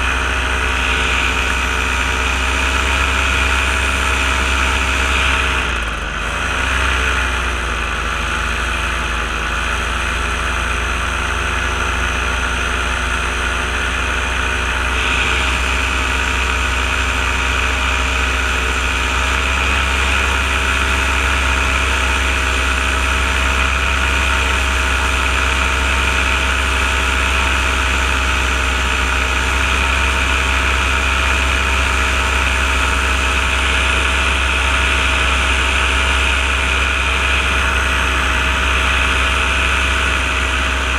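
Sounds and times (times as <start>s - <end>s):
small aircraft engine running: 0.0s - 40.9s.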